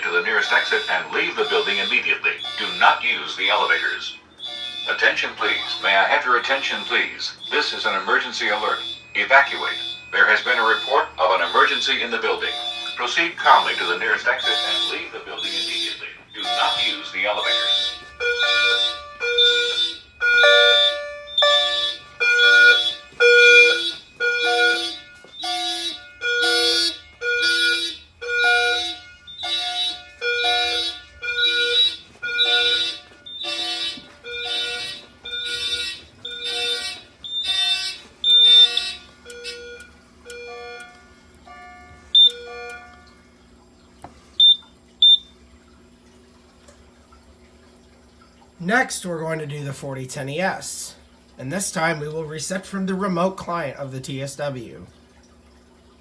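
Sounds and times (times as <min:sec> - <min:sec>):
short alarm chirps: 0:00.0 - 0:46.1
fire alarm horns pulsing: 0:00.0 - 0:56.0.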